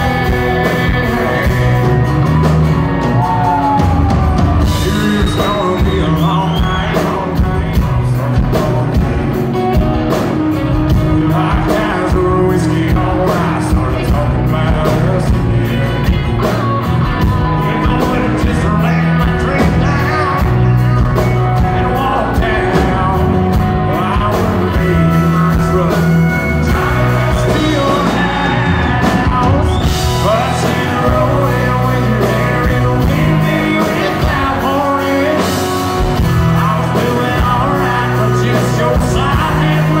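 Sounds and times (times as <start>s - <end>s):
drum kit: 0.0s - 40.0s
electric bass: 0.0s - 40.0s
man singing: 0.0s - 40.0s
pedal steel guitar: 0.0s - 40.0s.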